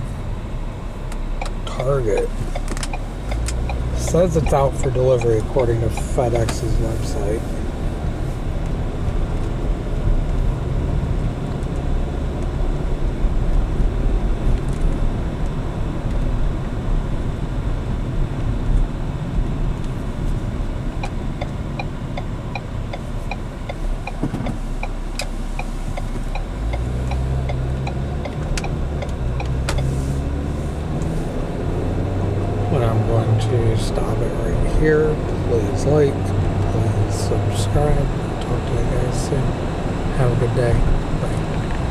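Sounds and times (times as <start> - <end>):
car road and engine rumble: 0.0 - 41.9
turn signal ticking: 0.0 - 41.9.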